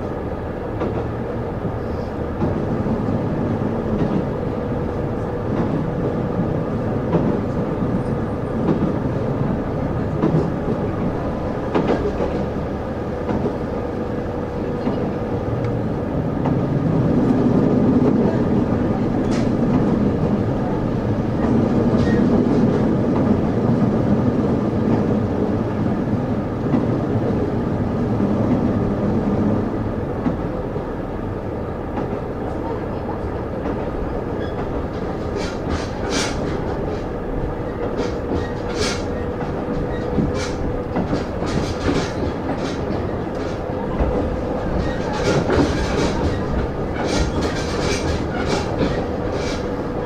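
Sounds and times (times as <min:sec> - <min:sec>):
wheels rumbling on rails: 0:00.0 - 0:50.0.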